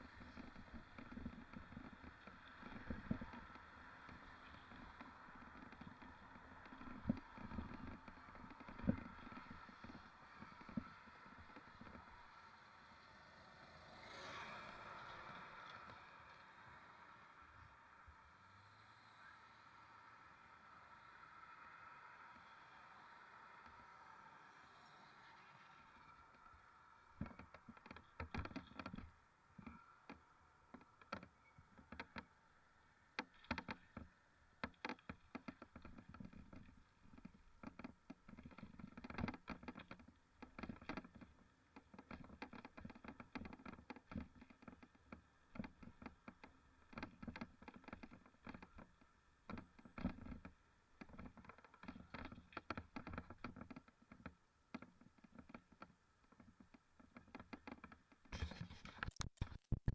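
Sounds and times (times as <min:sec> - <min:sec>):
faint irregular clicks and knocks: 0:00.0 - 0:59.9.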